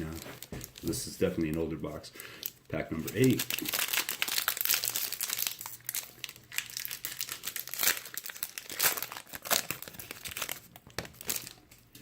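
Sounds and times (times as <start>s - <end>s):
wrapper crinkling and tearing: 0.0s - 1.7s, 2.4s - 12.0s.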